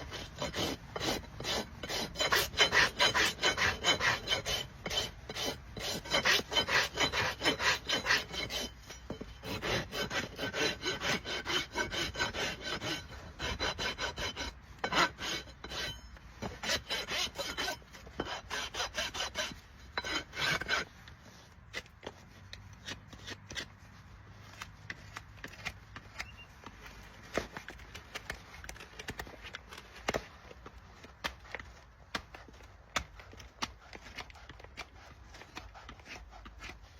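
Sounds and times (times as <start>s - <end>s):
hoof rasp filing a hoof: 0.0s - 36.9s.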